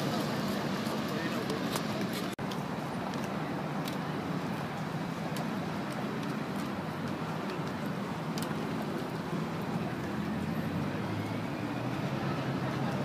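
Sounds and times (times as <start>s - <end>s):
low engine hum: 0.0s - 13.0s
road traffic noise: 0.0s - 13.0s.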